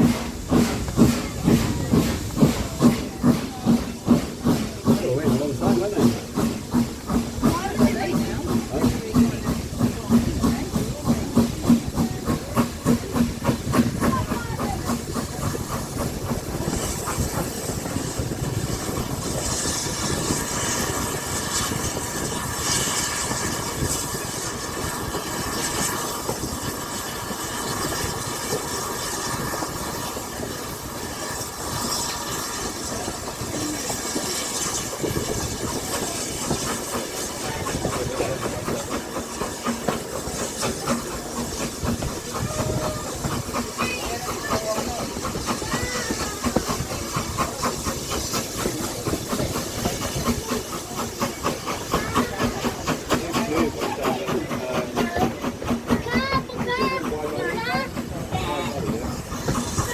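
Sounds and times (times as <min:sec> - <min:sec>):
steam hissing: 0:00.0 - 0:59.9
steam locomotive exhaust beating: 0:00.0 - 0:59.9
train rattling on rails: 0:00.0 - 0:59.9.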